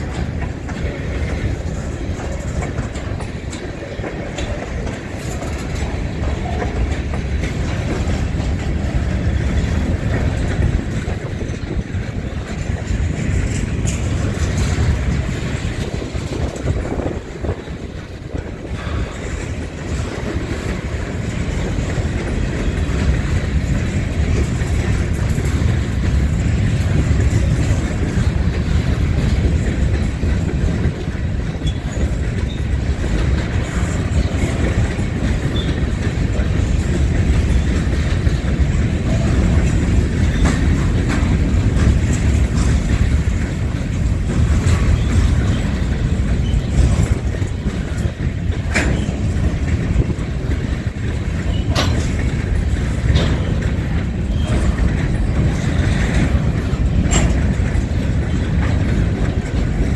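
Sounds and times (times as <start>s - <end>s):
clickety-clack over rail joints: 0.0s - 59.9s
train wheels rumbling on rail: 0.0s - 59.9s.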